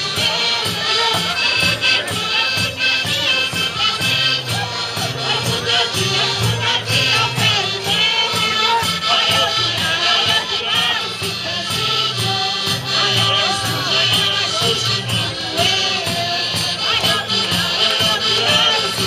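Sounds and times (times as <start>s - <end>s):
group singing folk music: 0.0s - 19.0s
percussion beat: 0.0s - 19.0s.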